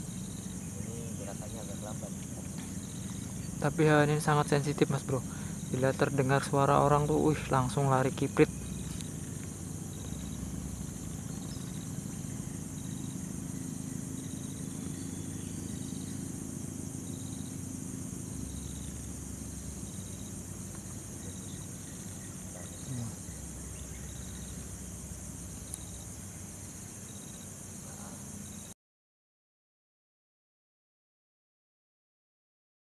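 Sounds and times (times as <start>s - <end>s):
insects shrilling: 0.0s - 28.7s
low steady hum: 0.0s - 28.7s.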